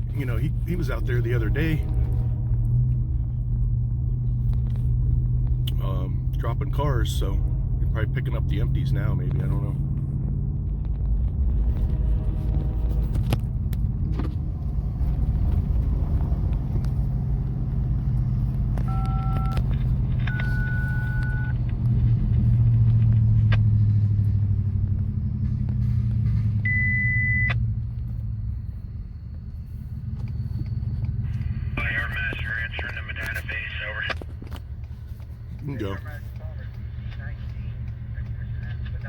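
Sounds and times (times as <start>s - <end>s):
diesel locomotive rumbling: 0.0s - 39.0s.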